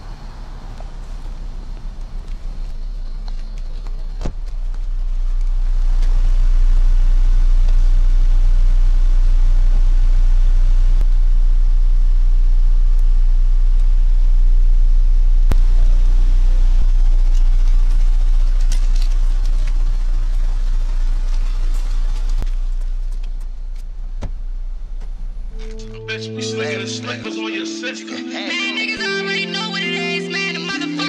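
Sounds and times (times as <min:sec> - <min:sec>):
car engine idling: 0:00.0 - 0:27.1.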